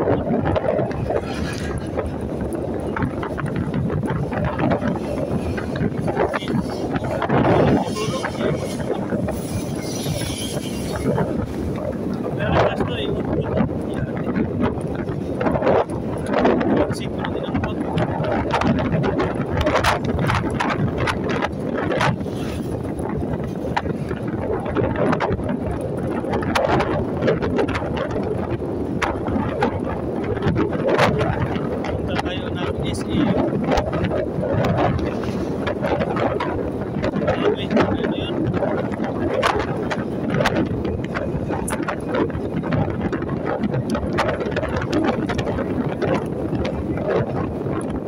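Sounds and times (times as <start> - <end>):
sharp clicks and rattles: 0.0 - 48.0
vehicle driving on concrete road: 0.0 - 48.0
wind buffeting microphone: 0.0 - 48.0.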